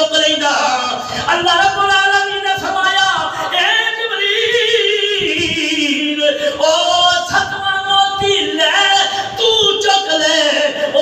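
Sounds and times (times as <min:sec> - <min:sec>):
man chanting through microphone: 0:00.0 - 0:11.0.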